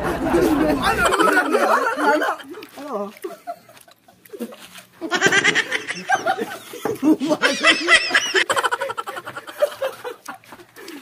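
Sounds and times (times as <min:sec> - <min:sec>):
men laughing together: 0:00.0 - 0:11.0.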